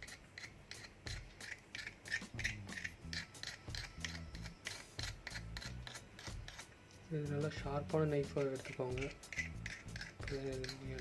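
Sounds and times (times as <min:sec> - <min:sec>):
knife scraping soldering iron tip: 0:00.0 - 0:06.8, 0:08.1 - 0:11.0.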